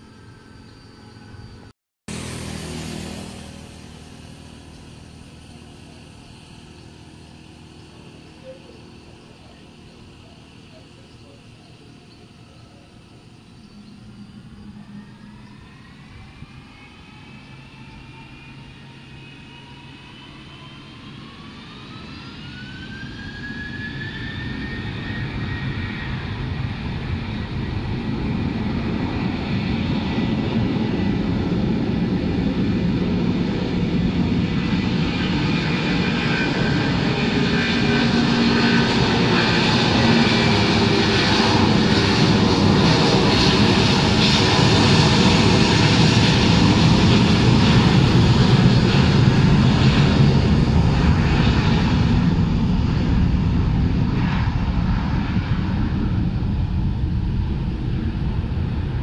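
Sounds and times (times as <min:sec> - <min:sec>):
jet airplane roar on takeoff: 0:00.0 - 0:59.0.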